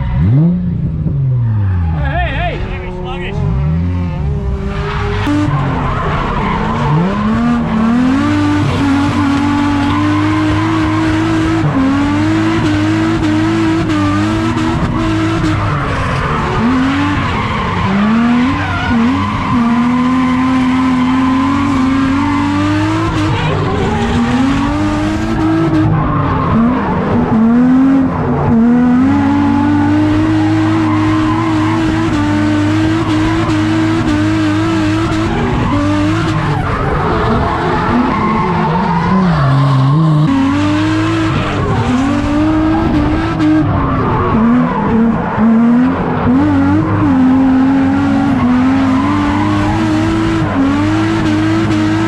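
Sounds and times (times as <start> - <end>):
car engine revving hard: 0.0 - 2.0, 3.3 - 52.0.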